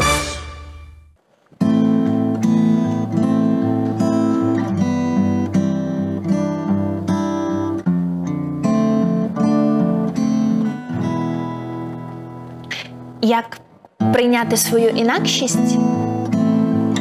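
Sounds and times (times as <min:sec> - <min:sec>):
acoustic guitar chords: 0:01.5 - 0:17.0.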